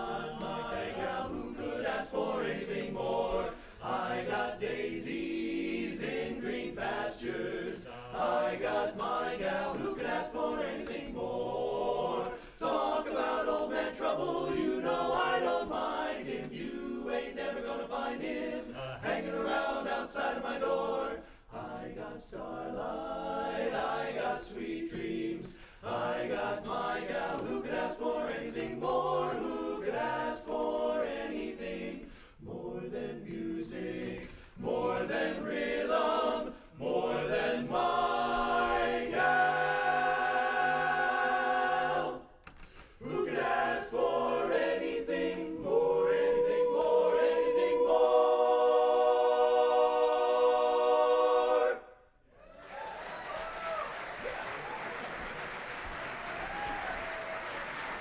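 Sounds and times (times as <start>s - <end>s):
men's chorus singing a cappella: 0.0s - 42.4s, 43.0s - 52.0s.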